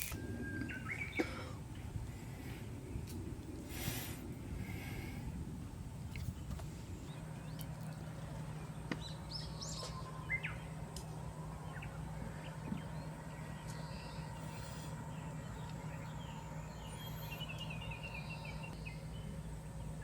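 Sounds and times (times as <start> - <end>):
birds chirping: 0.0 - 20.0
steady low hum: 0.0 - 20.0.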